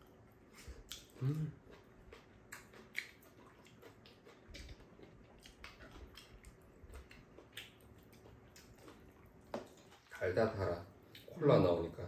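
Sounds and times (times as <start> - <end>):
quiet chewing: 0.0 - 10.4.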